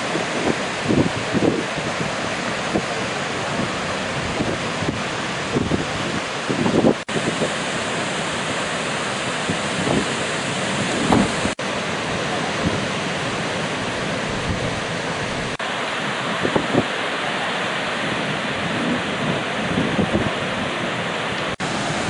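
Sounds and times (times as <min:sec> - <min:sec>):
wind on microphone: 0:00.0 - 0:07.7, 0:09.4 - 0:11.6, 0:12.5 - 0:15.6, 0:16.2 - 0:17.0, 0:18.0 - 0:22.0
ocean surf rushing: 0:00.0 - 0:22.0.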